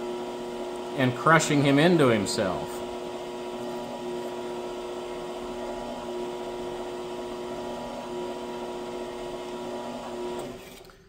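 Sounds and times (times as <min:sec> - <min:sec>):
electric motor humming: 0:00.0 - 0:10.8.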